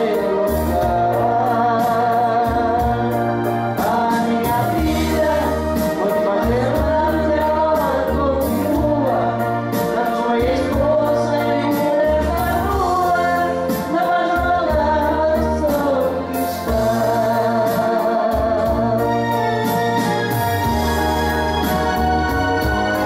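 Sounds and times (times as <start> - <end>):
woman singing into microphone: 0.0 - 19.9
man singing into microphone: 0.0 - 20.2
backing track with bass line: 0.0 - 23.0.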